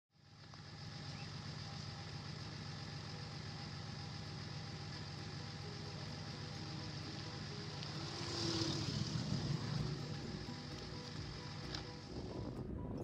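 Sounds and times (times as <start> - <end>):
car engine idling: 0.2 - 13.0.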